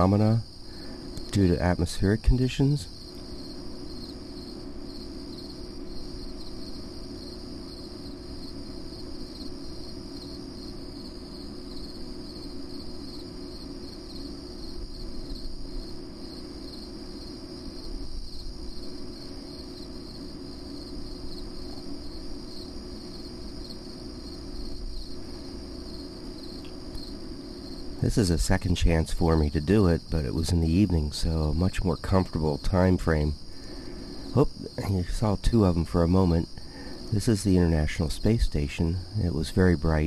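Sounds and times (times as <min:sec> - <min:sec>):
crickets chirping: 0:00.0 - 0:40.0
steady low hum: 0:00.0 - 0:40.0.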